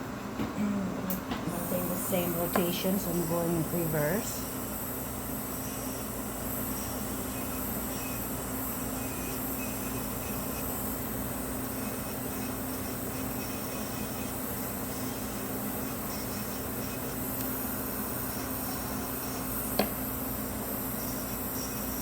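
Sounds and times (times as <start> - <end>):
electric nail file whirring: 1.5 - 22.0.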